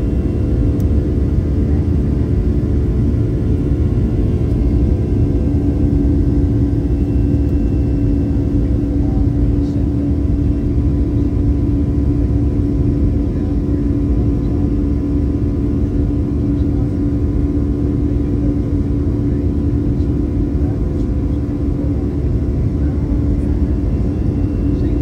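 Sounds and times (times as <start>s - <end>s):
jet engine rumbling from cabin: 0.0s - 25.0s.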